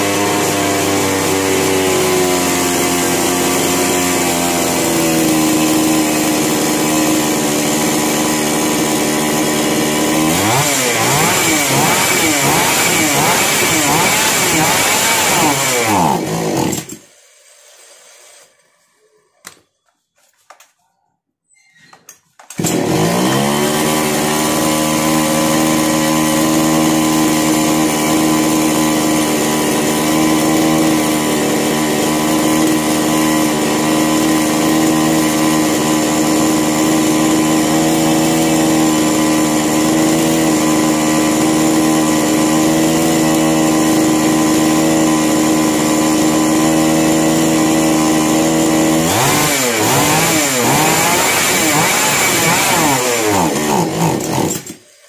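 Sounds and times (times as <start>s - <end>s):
chainsaw engine running: 0.0s - 17.1s, 22.5s - 55.0s.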